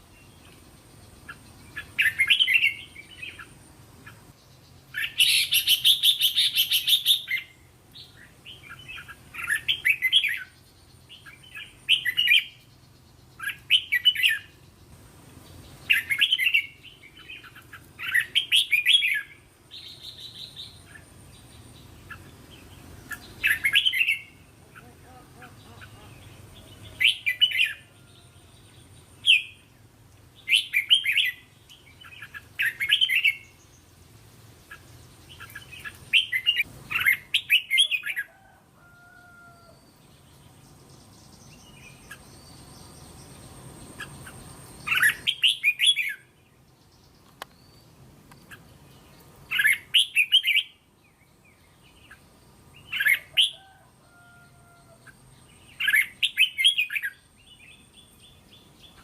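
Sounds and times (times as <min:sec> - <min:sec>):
bird singing warbled phrases: 0:00.0 - 0:38.5, 0:39.6 - 0:59.0.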